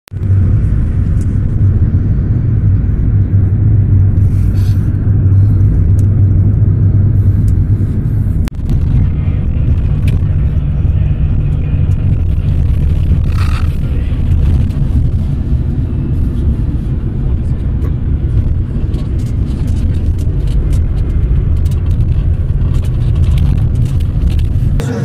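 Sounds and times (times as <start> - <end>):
minibus engine and road noise: 0.1 - 25.0.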